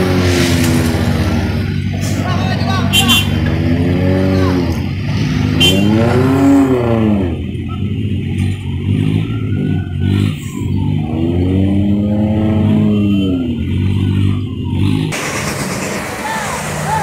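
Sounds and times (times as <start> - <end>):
truck diesel engine under load: 0.0 - 17.0.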